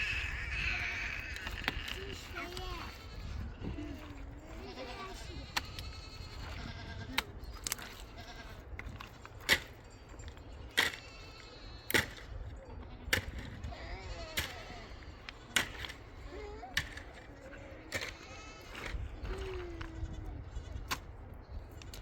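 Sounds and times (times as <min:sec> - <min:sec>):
sheep or goats bleating: 0:00.0 - 0:08.8, 0:10.8 - 0:11.9, 0:12.8 - 0:20.8.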